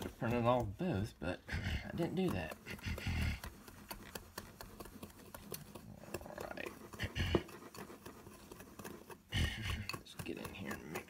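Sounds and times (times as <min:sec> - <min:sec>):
whisk stirring dry seasoning: 0:00.0 - 0:11.0.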